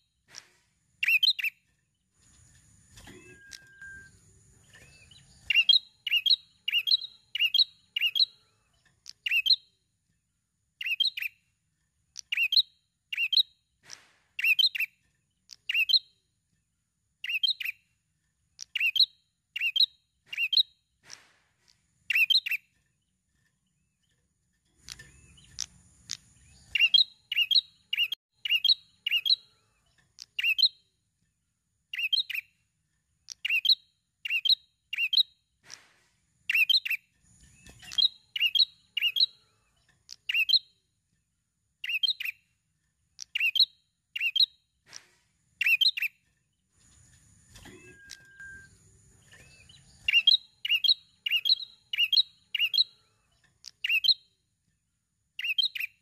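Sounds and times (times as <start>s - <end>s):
songbird sharp high chirps: 0.0s - 10.0s, 10.7s - 16.4s, 17.1s - 24.2s, 24.8s - 31.0s, 31.8s - 40.9s, 41.7s - 54.6s, 55.3s - 56.0s.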